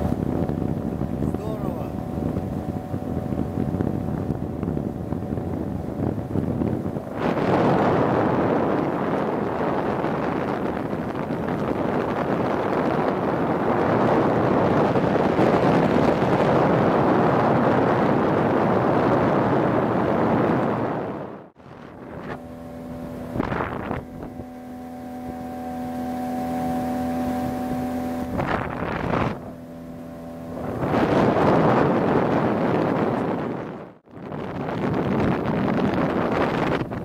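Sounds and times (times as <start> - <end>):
motorboat engine running: 0.0 - 37.0
wind buffeting microphone: 0.0 - 37.0.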